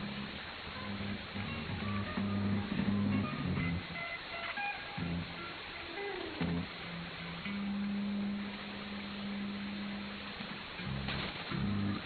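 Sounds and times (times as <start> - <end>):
narrow-band radio music: 0.0 - 12.0
static hiss: 0.0 - 12.0.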